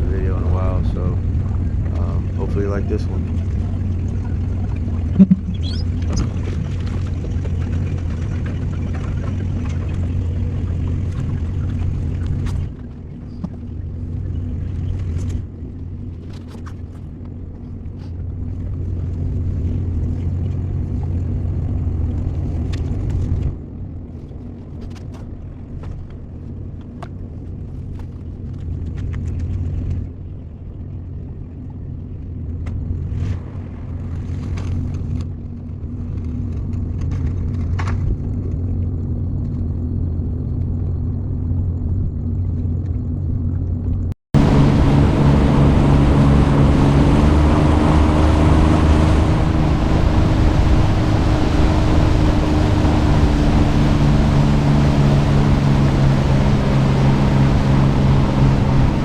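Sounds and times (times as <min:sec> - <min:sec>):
small boat motor droning: 0:00.0 - 0:59.0.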